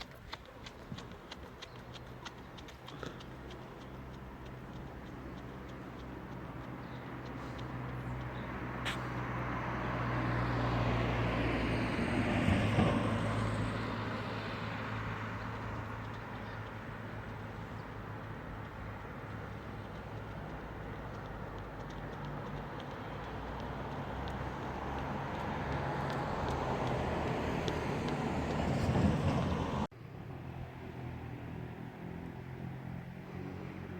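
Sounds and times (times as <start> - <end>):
low engine hum: 0.0 - 33.9
vehicles passing by: 0.0 - 33.9.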